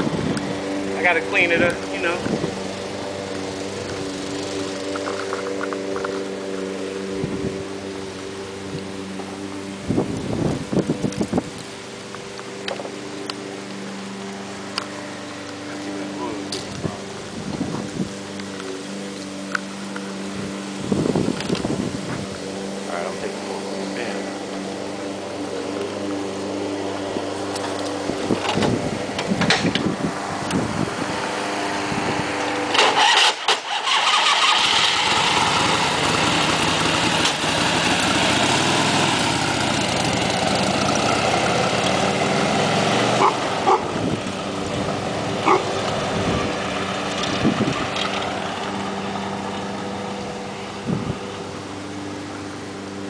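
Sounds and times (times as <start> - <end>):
motorcycle engine idling and revving: 0.0 - 53.0.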